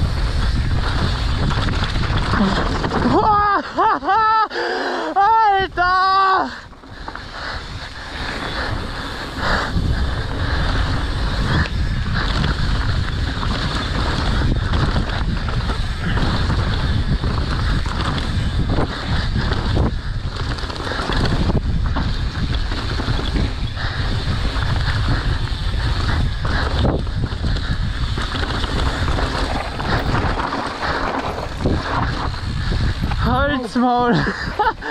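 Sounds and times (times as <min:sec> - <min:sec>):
bike knocks and rattles: 0:00.0 - 0:03.9, 0:06.7 - 0:33.9
wind rushing over microphone: 0:00.0 - 0:04.5, 0:05.3 - 0:34.9
bike tyres rumbling on dirt: 0:00.0 - 0:34.9.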